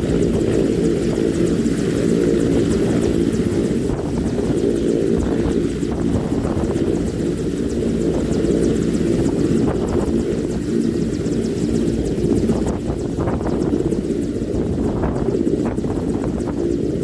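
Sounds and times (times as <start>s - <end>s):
helicopter running: 0.0s - 17.0s.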